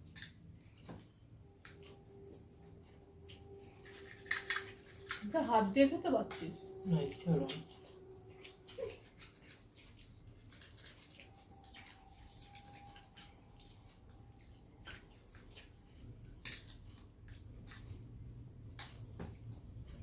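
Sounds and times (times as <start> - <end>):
person chewing food: 0.0 - 5.3, 6.7 - 20.0
low steady hum: 0.0 - 20.0.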